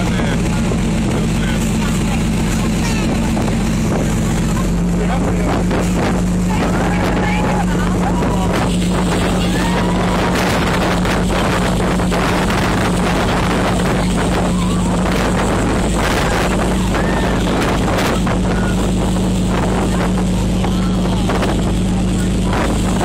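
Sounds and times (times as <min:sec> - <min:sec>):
boat engine droning: 0:00.0 - 0:23.0
rushing water: 0:00.0 - 0:23.0
wind buffeting microphone: 0:00.0 - 0:23.0.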